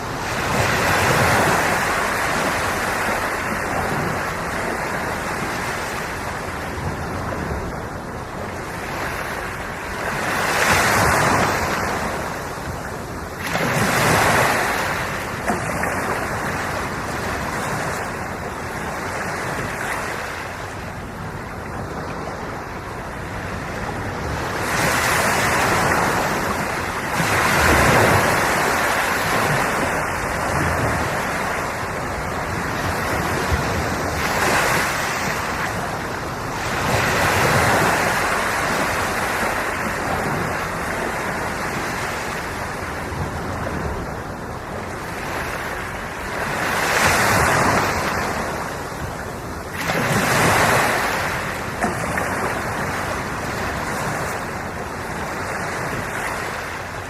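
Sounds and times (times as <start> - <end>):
ocean waves breaking on shore: 0.0 - 57.0
wind on microphone: 0.0 - 57.0.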